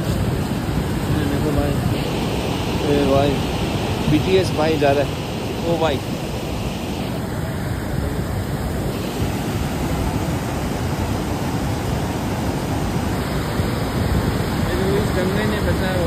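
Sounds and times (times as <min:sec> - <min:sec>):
river water rushing over boulders: 0:00.0 - 0:16.0.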